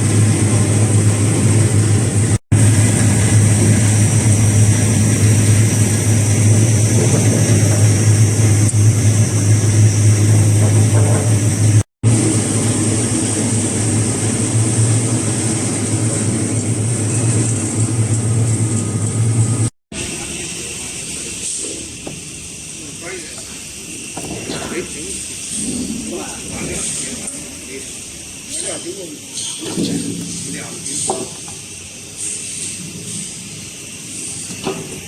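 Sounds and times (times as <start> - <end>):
vegetable washing machine running: 0.0 - 32.1.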